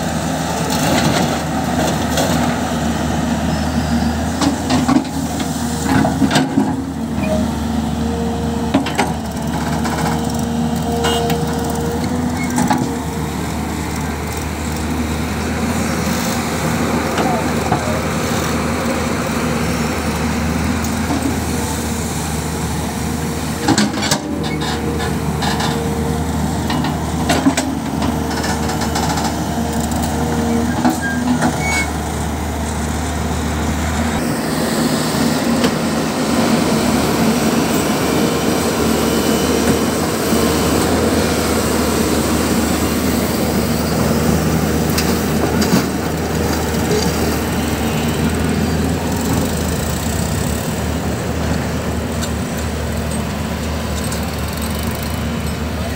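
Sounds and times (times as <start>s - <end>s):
diesel engines running: 0.0s - 55.9s.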